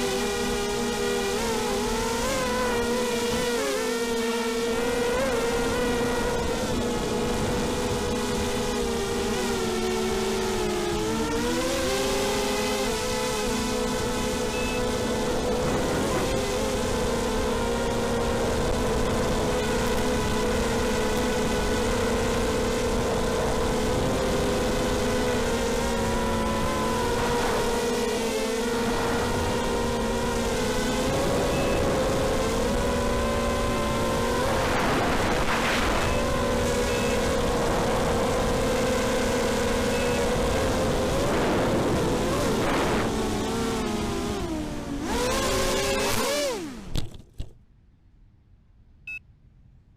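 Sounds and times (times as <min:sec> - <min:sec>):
quadcopter motors buzzing: 0:00.0 - 0:47.2.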